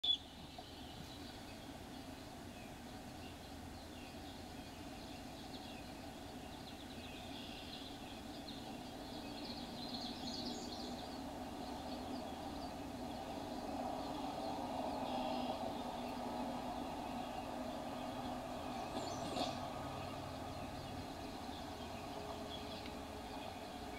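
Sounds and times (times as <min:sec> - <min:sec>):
steady low hum: 0:00.2 - 0:23.9.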